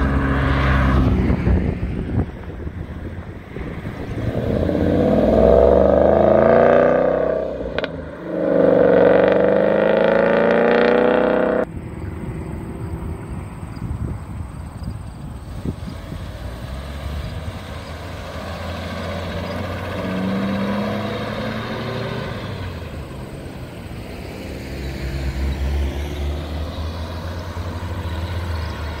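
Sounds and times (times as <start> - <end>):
car engine accelerating past: 0.0 - 13.6, 15.6 - 29.0.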